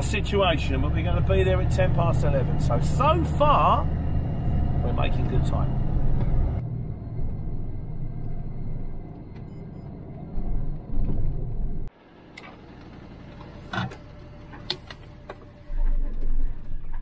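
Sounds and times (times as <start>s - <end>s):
lorry engine and road rumble: 0.0s - 17.0s
low hum: 0.0s - 17.0s.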